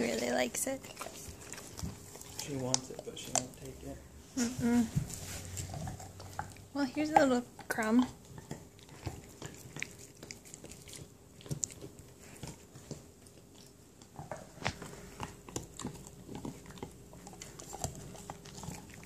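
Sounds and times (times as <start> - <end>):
dogs chewing on antler: 0.0 - 4.0, 5.0 - 19.0.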